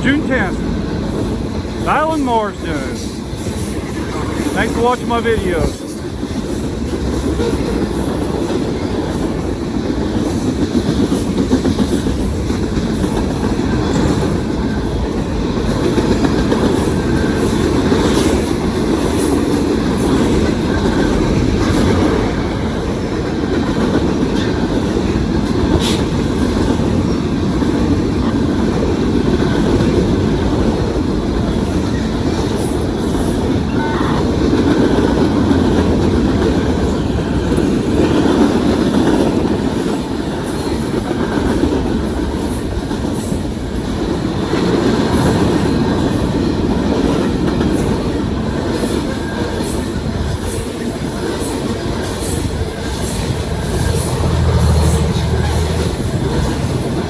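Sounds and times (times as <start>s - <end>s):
freight train cars rolling past: 0.0s - 57.0s.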